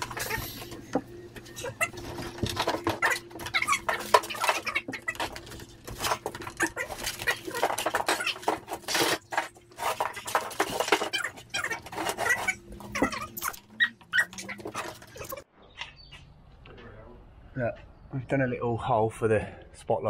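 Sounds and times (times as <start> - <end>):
animal whining: 0.0 - 16.3.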